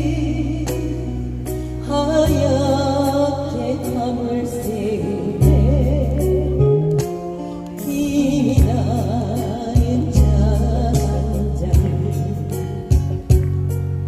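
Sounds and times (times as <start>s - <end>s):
slow ballad with sustained bass: 0.0s - 14.0s.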